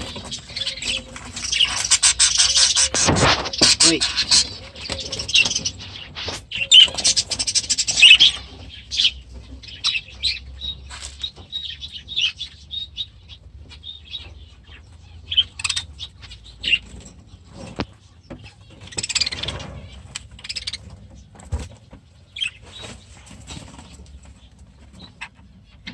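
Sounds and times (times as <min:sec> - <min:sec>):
budgerigars chattering: 0:00.0 - 0:21.3.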